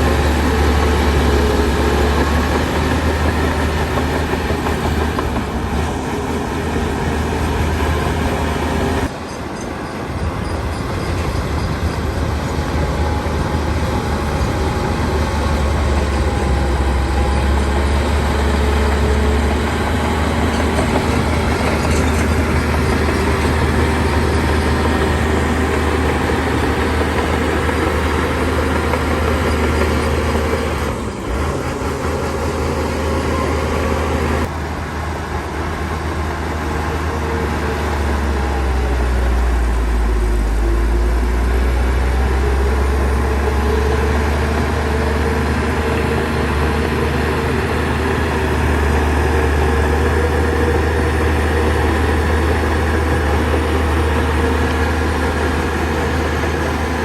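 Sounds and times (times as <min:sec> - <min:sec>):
diesel engine rumbling: 0:00.0 - 0:09.4, 0:10.0 - 0:57.0.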